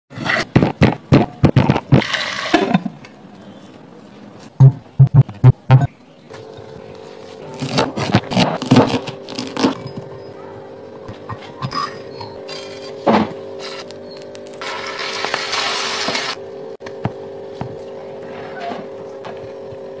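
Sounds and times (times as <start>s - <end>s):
steady low hum: 2.7s - 20.0s.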